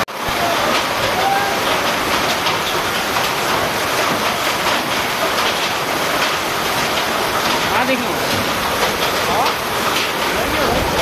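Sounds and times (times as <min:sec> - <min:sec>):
heavy rain on concrete: 0:00.0 - 0:11.0.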